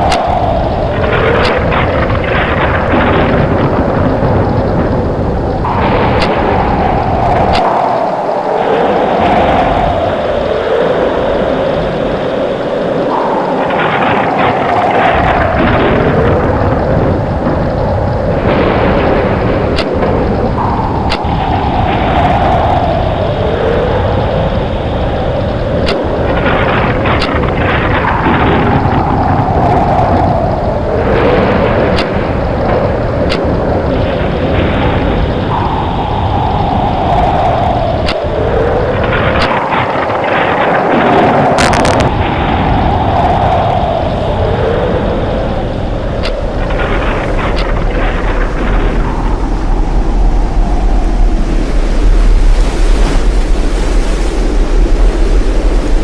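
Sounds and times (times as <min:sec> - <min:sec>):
howling wind whine: 0:00.0 - 0:56.0
sharp cracks: 0:00.0 - 0:56.0
tornado wind roaring: 0:00.0 - 0:56.0.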